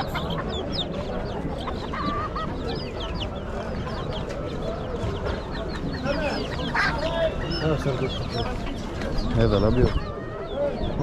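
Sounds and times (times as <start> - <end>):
background hubbub: 0.0 - 11.0
chickens clucking: 0.0 - 11.0.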